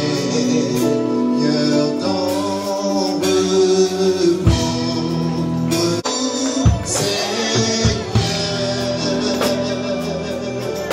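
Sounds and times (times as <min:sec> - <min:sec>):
keyboard chords: 0:00.0 - 0:10.9
person singing: 0:00.0 - 0:10.9.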